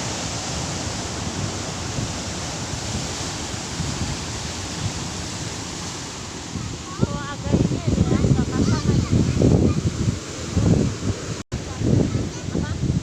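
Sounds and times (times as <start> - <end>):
sea waves surging onto shore: 0.0 - 13.0
wind buffeting microphone: 0.0 - 13.0.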